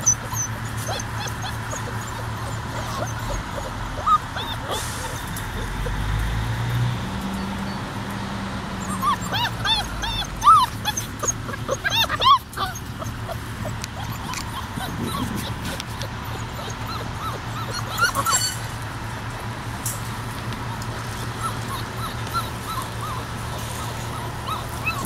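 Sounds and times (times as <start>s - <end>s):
puppies whimpering and yipping: 0.0s - 6.2s, 8.7s - 18.8s, 20.7s - 25.0s.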